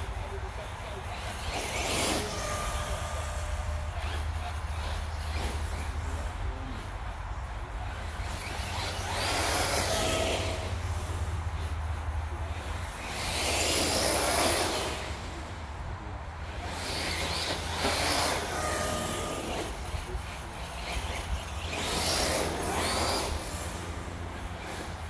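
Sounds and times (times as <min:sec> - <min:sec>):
rc car motor whine: 0:00.0 - 0:25.0
tyres on leaf-covered ground: 0:00.0 - 0:25.0.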